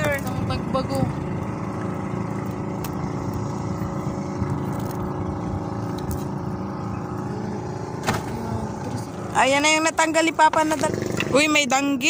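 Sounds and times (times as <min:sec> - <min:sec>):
small boat engine droning: 0:00.0 - 0:12.0.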